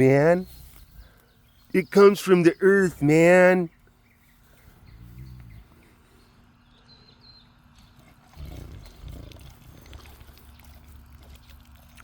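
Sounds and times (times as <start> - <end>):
faint birds chirping: 0.0 - 12.0
steady low hum: 0.0 - 12.0.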